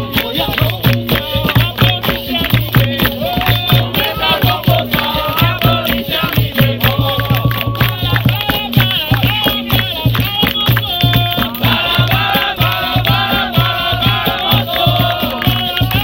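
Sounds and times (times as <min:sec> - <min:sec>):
rattling percussion: 0:00.0 - 0:16.0
steady drum beat: 0:00.0 - 0:16.0
voices singing together: 0:00.0 - 0:16.0.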